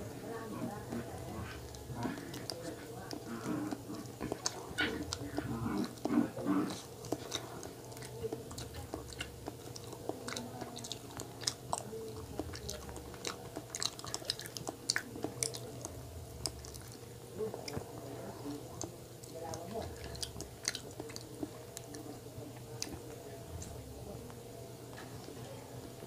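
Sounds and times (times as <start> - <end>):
chewing with wet mouth clicks: 0.6 - 25.4.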